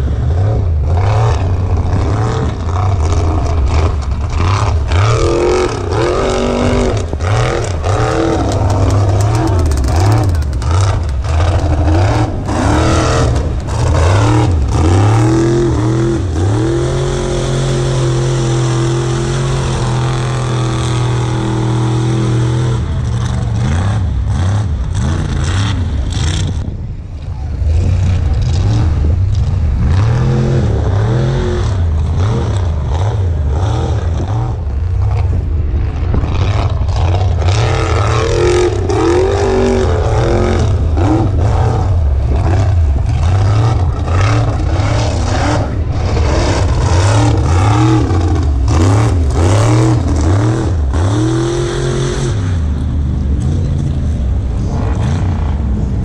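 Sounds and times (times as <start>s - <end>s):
truck engine revving hard: 0.0s - 56.0s.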